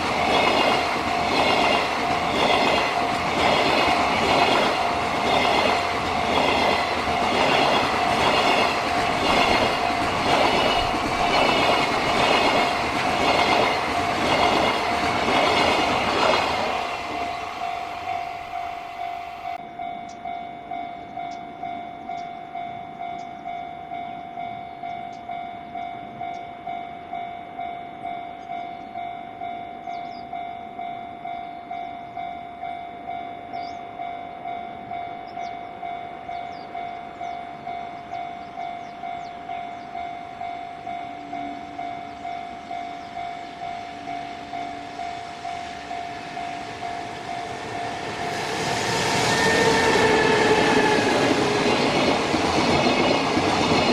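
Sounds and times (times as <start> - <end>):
approaching freight train: 0.0 - 53.9
level crossing warning bell: 0.0 - 53.9.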